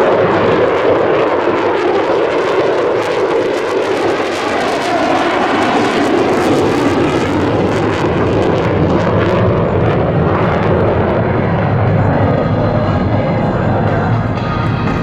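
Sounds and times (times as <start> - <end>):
military jet engine roar: 0.0 - 15.0.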